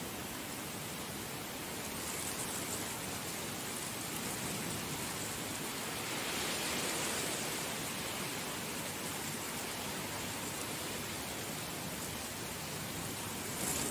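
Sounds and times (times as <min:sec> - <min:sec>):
heavy rain falling: 0:00.1 - 0:13.9.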